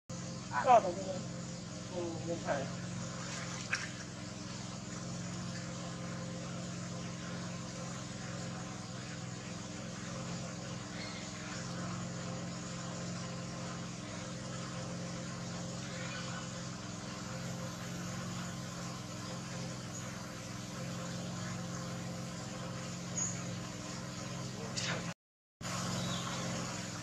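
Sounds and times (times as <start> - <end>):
constant hiss: 0.1 - 27.0
low mechanical hum: 0.1 - 27.0.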